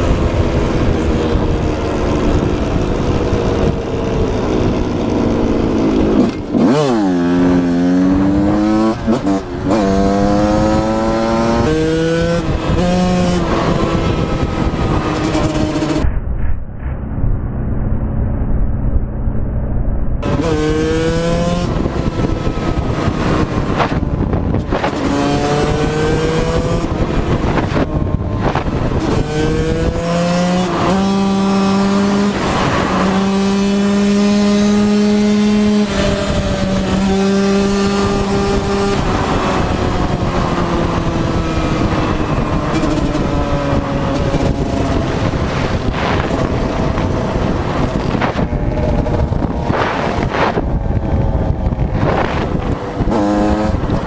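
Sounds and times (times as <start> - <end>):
dirt bike engine accelerating: 0.0 - 54.0
wind on microphone: 0.0 - 54.0.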